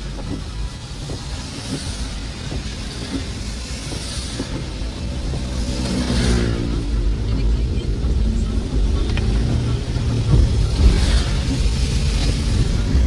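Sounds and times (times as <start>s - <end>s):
car engine and road rumble: 0.0s - 13.0s
rain and wet tyres hiss: 0.0s - 13.0s.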